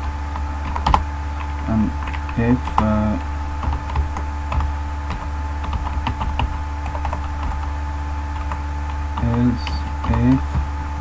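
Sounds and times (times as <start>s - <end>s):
computer keyboard typing: 0.0s - 10.7s
low electrical hum: 0.0s - 11.0s.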